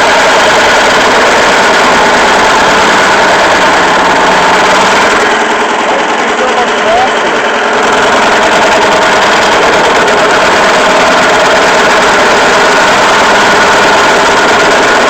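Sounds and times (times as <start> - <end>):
drill press cutting pipe: 0.0 - 15.0.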